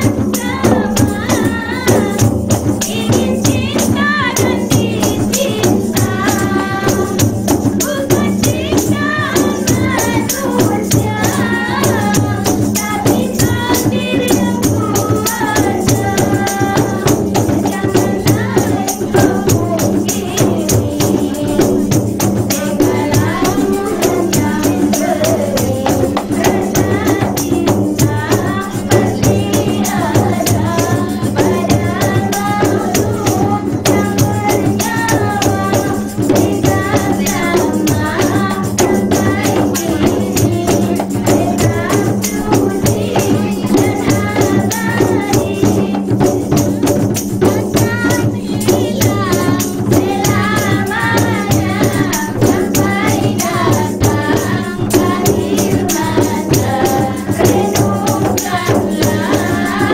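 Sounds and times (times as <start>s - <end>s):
frame drums beating: 0.0s - 59.9s
woman singing into a microphone: 0.0s - 59.9s.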